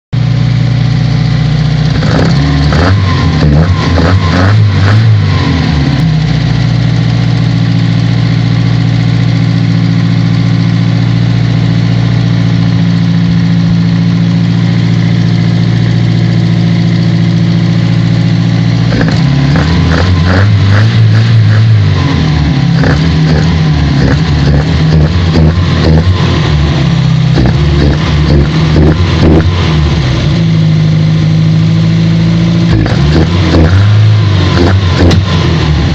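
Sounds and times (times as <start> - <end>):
car engine idling and revving: 0.2 - 35.9.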